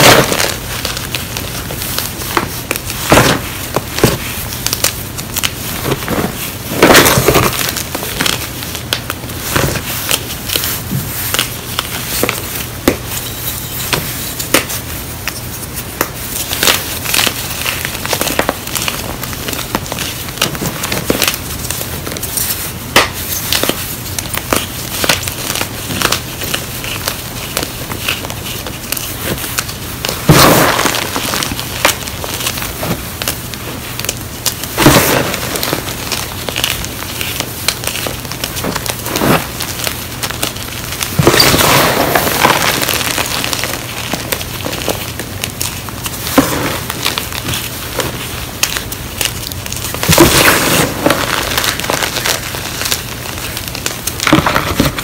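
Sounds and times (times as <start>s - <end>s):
chalk crushing and crunching: 0.0s - 55.0s.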